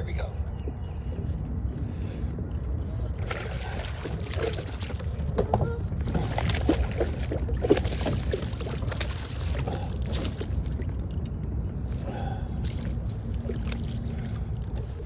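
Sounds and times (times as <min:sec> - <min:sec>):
wind rumble on microphone: 0:00.0 - 0:15.0
water splashing and sloshing: 0:00.6 - 0:15.0.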